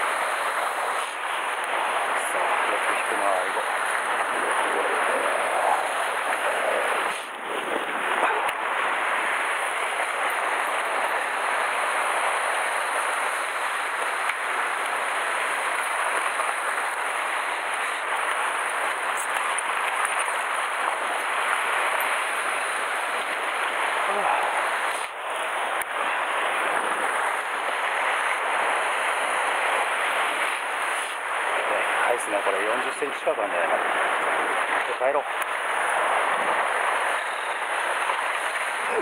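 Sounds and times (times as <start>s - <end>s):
sea waves breaking over rocks: 0.0s - 39.0s.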